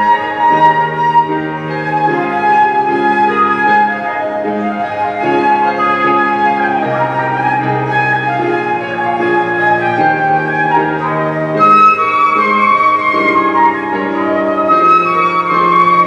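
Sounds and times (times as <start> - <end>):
flute melody: 0.0 - 16.0.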